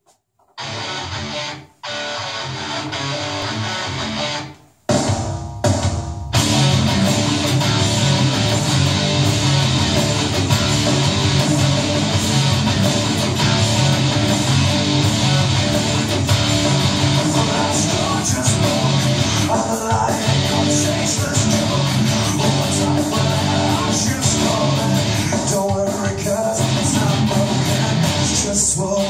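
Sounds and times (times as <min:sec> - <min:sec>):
electric guitar riff: 0:00.6 - 0:29.0.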